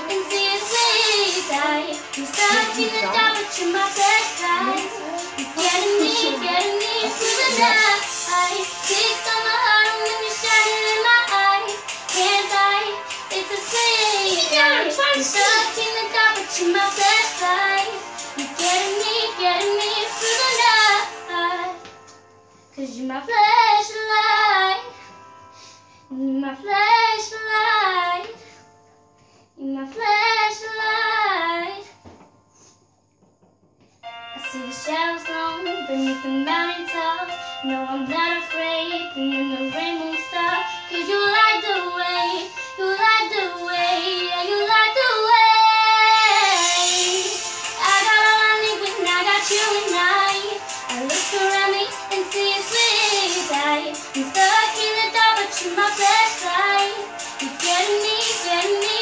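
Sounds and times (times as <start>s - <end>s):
girl singing unaccompanied: 0.0s - 21.8s, 29.6s - 31.9s, 34.4s - 59.0s.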